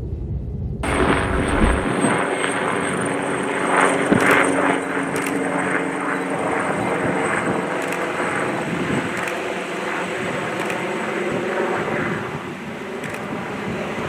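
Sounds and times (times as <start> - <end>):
jet engines running: 0.8 - 14.0.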